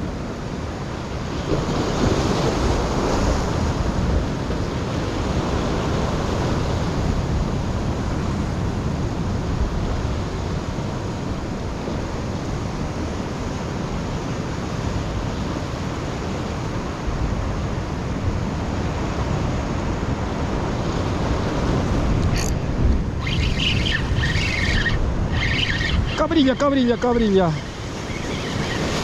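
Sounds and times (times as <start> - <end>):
surf on rocky shore: 0.0 - 29.0
wind rumbling on microphone: 0.0 - 29.0.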